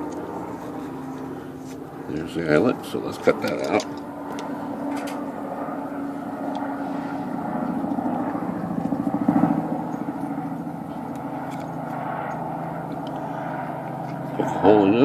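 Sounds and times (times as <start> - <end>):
steady engine drone: 0.0 - 15.0.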